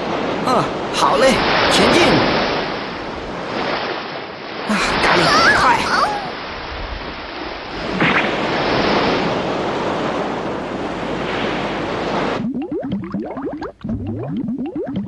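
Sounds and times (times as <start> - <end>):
ocean waves rushing: 0.0 - 13.7.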